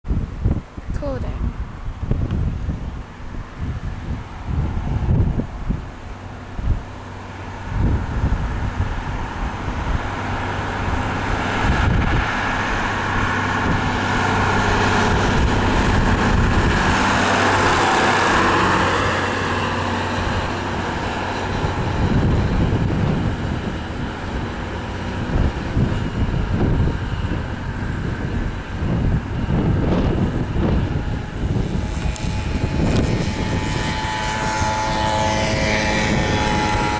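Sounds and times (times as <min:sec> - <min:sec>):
diesel truck passing by: 0:01.5 - 0:36.9.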